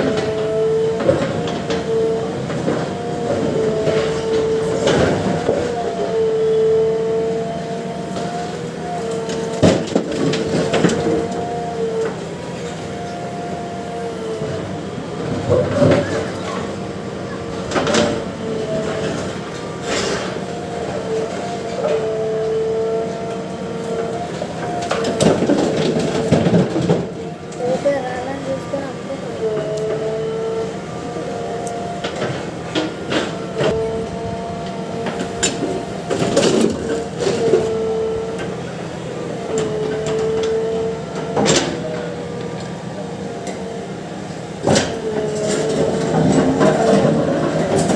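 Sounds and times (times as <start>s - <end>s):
excavator whining: 0.0s - 47.9s.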